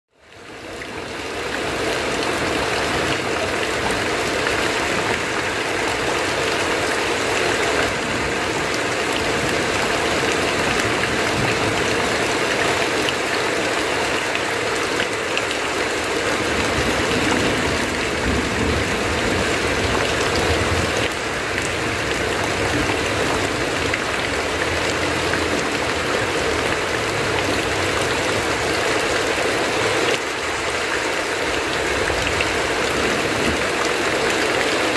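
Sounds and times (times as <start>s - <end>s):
heavy rain on a tin roof: 0.1s - 34.9s.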